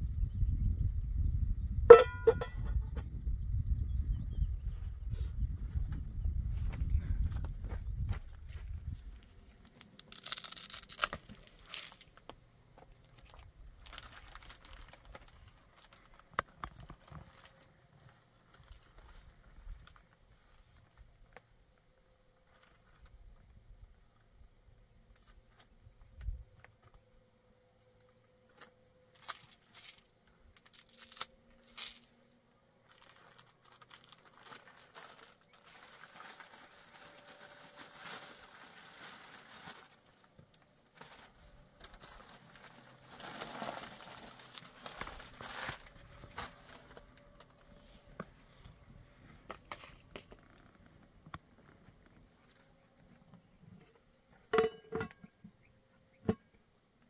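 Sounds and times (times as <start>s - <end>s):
rustling and crinkling: 4.7s - 23.7s, 27.8s - 55.6s.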